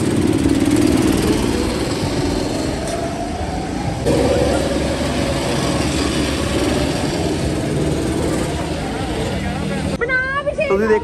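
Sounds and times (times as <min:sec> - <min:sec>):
go-kart engines running: 0:00.0 - 0:11.0.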